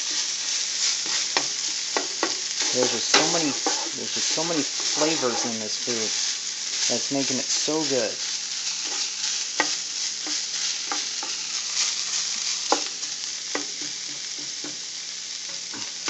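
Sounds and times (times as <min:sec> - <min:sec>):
meat and onions sizzling in a pan: 0:00.0 - 0:16.0.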